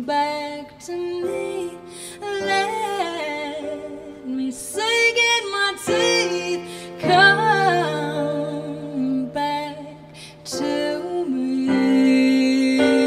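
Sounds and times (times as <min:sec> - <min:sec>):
woman singing: 0:00.0 - 0:13.0
digital piano chords: 0:01.2 - 0:13.0.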